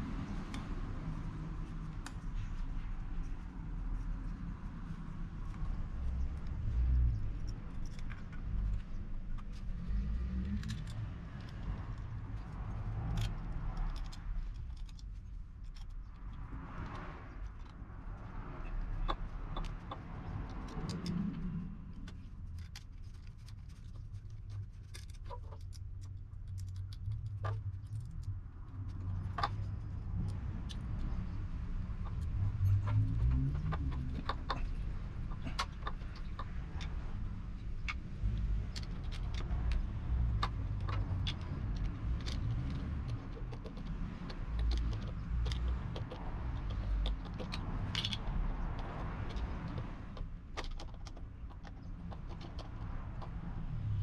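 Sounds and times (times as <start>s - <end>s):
metallic clicks and rattles: 4.3s - 54.0s.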